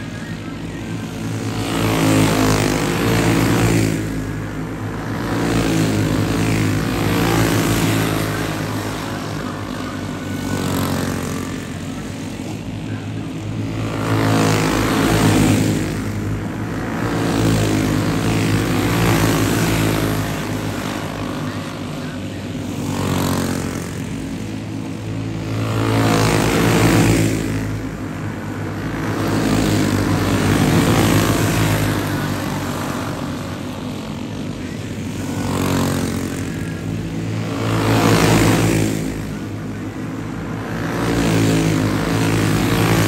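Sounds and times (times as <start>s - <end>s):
racing kart engines droning: 0.0s - 43.0s.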